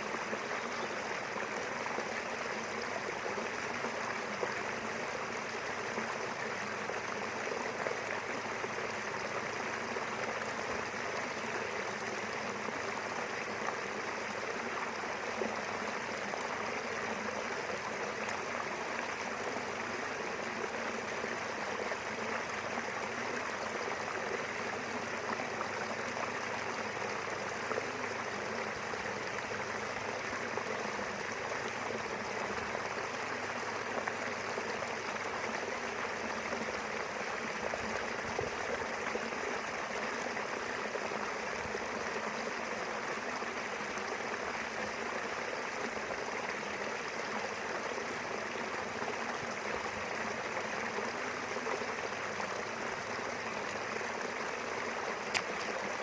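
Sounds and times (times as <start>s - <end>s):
small river babbling: 0.0s - 56.0s.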